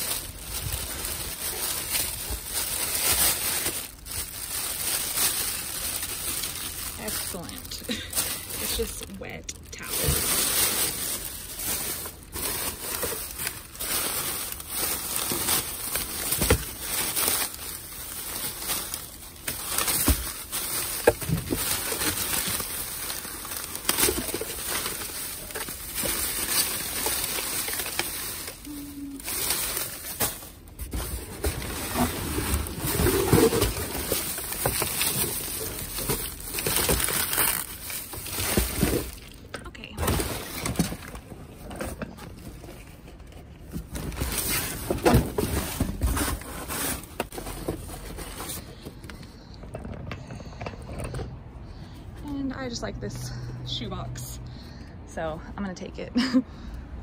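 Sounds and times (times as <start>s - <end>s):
trash bags rustling and crinkling: 0.0s - 54.0s.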